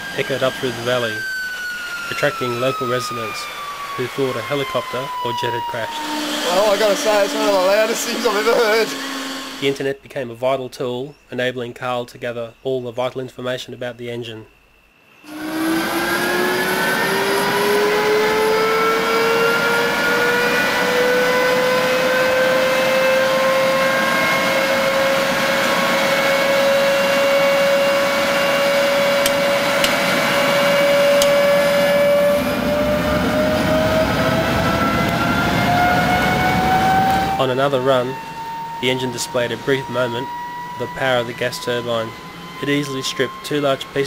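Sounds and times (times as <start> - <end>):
jet engine whine rising: 0.0 - 9.9, 15.1 - 44.0.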